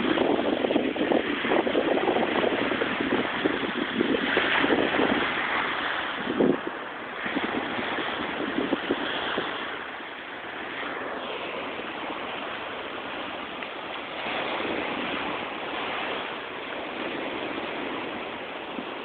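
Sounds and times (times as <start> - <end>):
small waves breaking on sand: 0.0 - 19.0.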